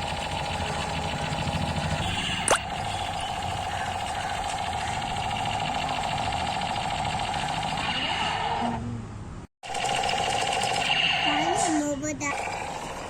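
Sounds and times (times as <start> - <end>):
toy machine gun buzzing rattle: 0.0 - 2.1, 2.8 - 8.6, 9.7 - 13.0.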